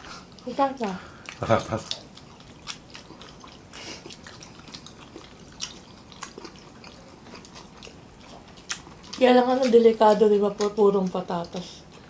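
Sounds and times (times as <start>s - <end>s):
people chewing fries: 0.0s - 12.0s.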